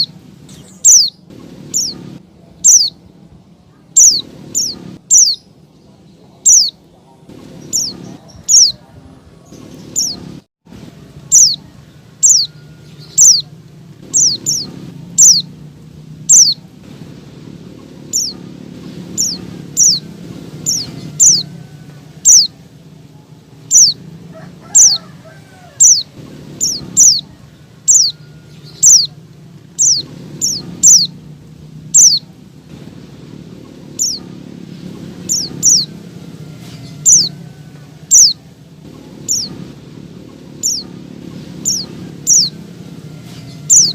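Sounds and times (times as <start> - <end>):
bird calling high sliding notes: 0.0 - 3.0, 3.9 - 5.6, 6.4 - 8.9, 9.5 - 43.9
low steady background hum: 0.0 - 43.9.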